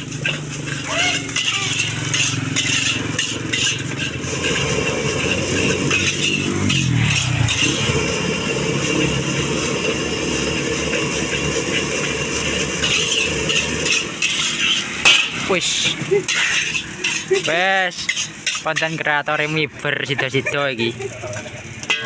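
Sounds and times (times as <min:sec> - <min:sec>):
passing engine: 0:00.0 - 0:18.4
gas burner roaring: 0:00.0 - 0:22.0
spatula scraping in a wok: 0:00.0 - 0:22.0.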